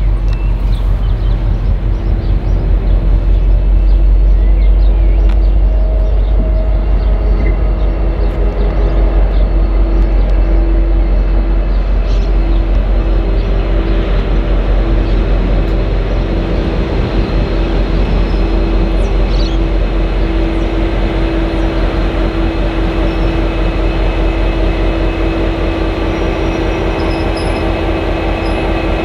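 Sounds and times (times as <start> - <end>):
diesel locomotive engine drone: 0.0 - 29.0.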